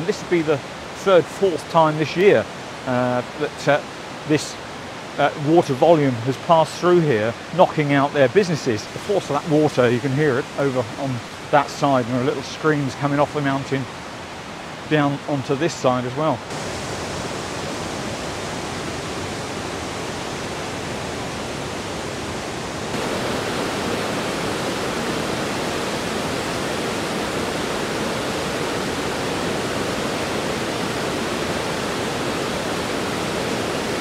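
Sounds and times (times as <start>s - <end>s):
water roaring over waterfall: 0.0s - 34.0s.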